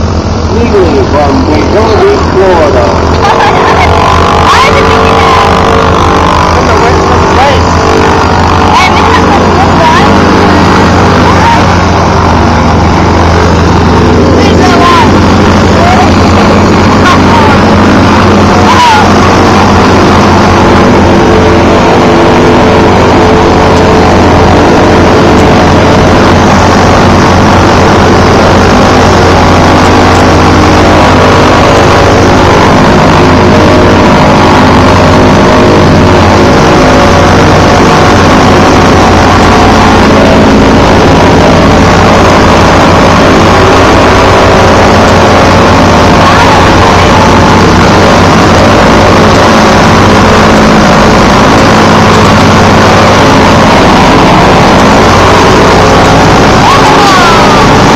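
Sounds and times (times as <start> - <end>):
radial aircraft engine running: 0.0 - 57.9.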